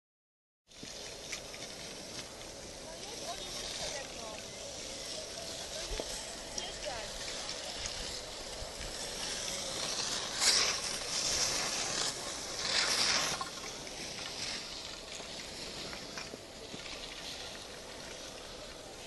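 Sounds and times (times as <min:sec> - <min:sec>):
skis scraping over snow: 0:00.7 - 0:19.0.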